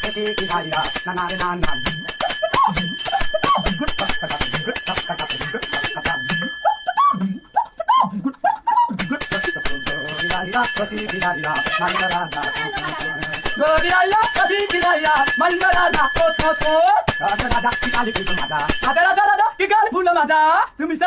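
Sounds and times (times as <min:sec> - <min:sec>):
person speaking: 0:00.0 - 0:06.6, 0:09.0 - 0:21.0
rhythmic bell-like ringing: 0:00.0 - 0:19.8.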